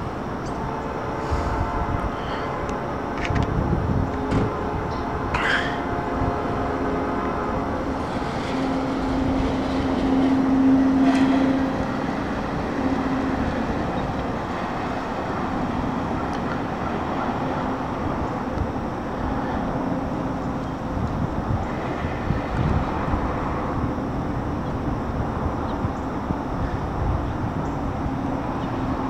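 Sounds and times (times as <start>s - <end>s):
low locomotive engine drone: 0.0s - 29.0s
train rolling on rails: 0.0s - 29.0s.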